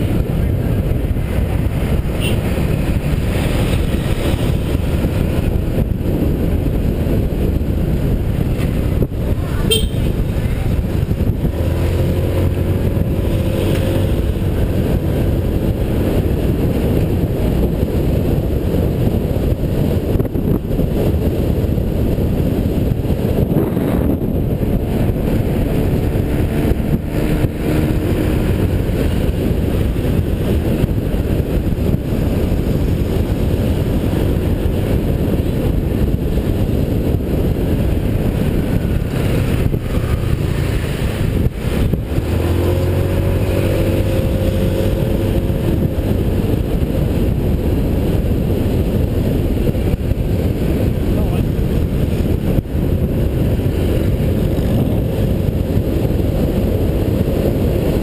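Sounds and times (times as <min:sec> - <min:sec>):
motorbike engine: 0:00.0 - 0:58.0
wind and road noise: 0:00.0 - 0:58.0.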